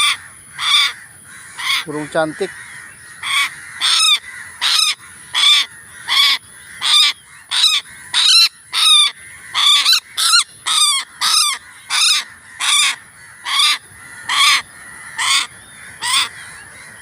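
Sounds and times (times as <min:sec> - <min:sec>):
bird rasping screech: 0:00.0 - 0:16.6.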